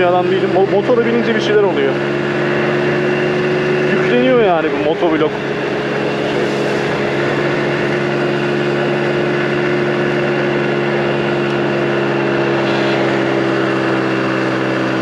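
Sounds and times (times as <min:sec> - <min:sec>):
scooter engine running under load: 0:00.0 - 0:15.0.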